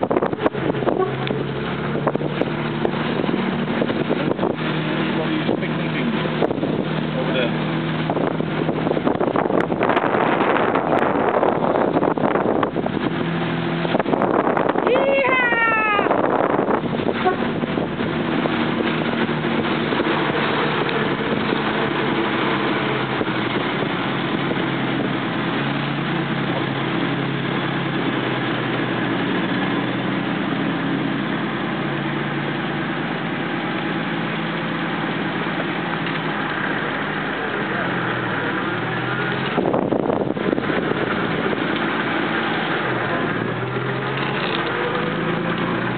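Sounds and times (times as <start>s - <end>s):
car engine running inside car: 0.0s - 45.9s.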